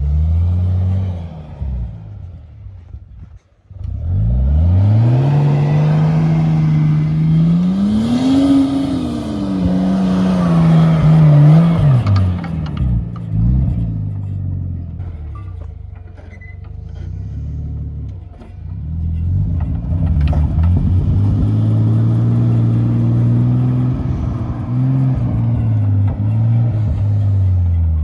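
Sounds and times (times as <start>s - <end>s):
off-road engine revving: 0.0s - 28.0s.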